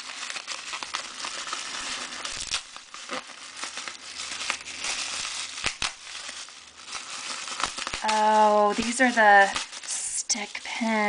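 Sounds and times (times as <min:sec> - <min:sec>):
sharp paper crackles: 0:00.0 - 0:11.0
wrapping paper crinkling: 0:00.0 - 0:11.0.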